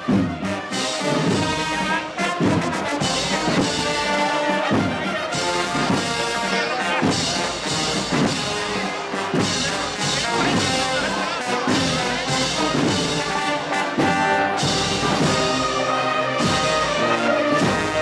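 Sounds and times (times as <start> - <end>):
brass band playing march: 0.0 - 18.0.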